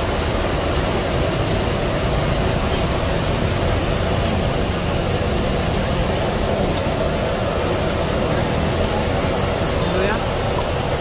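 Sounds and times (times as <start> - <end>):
background rumble and hiss: 0.0 - 11.0.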